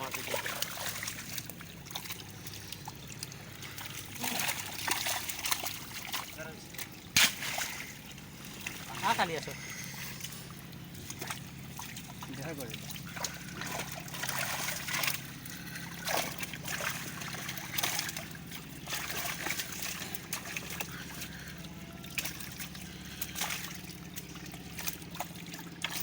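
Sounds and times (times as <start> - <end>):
river water splashing: 0.0 - 26.0
steady low hum: 0.0 - 26.0.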